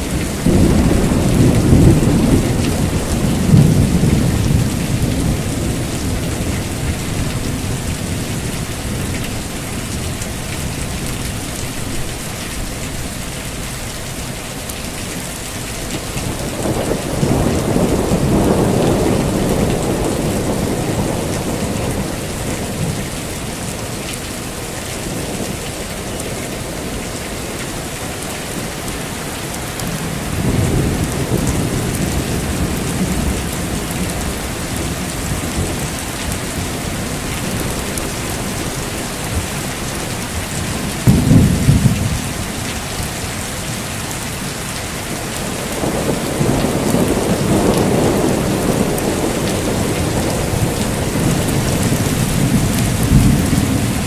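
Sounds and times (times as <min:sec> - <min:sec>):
thunder rumbling: 0:00.0 - 0:13.2, 0:14.9 - 0:54.0
heavy rain falling: 0:00.0 - 0:54.0.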